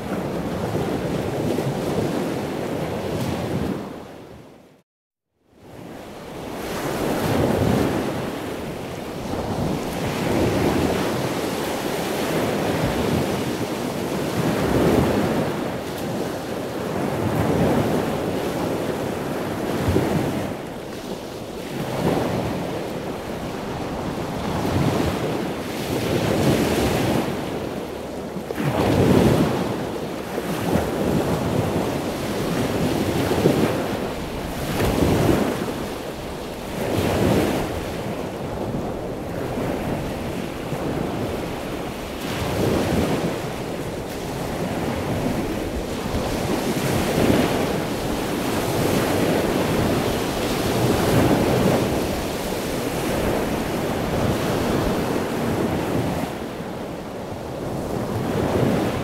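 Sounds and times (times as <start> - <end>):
waves breaking on beach: 0.0 - 4.4, 5.6 - 59.0.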